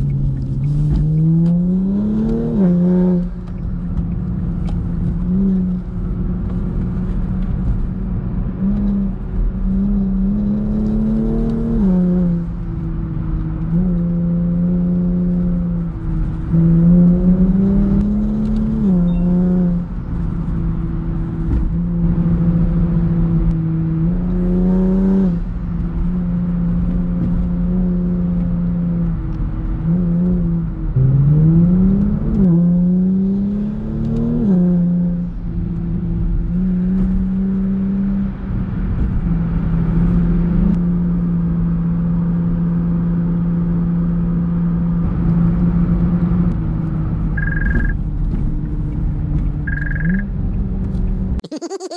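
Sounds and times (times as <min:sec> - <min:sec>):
car engine drone in cabin: 0:00.0 - 0:51.9.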